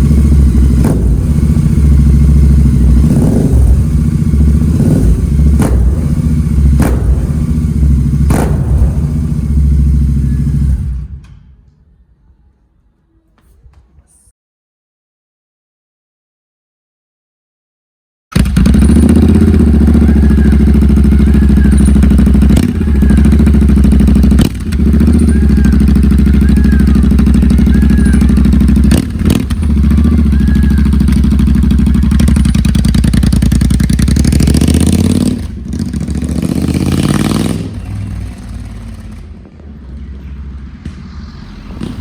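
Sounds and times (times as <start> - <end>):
motorcycle engine running loud: 0.0 - 11.0, 18.4 - 42.0.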